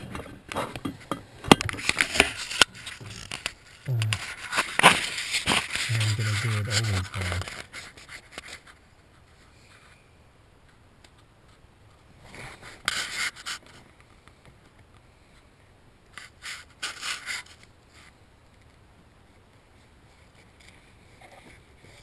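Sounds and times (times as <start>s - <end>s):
hands rustling against wiring: 0.0s - 10.0s, 10.6s - 15.1s, 16.1s - 22.0s.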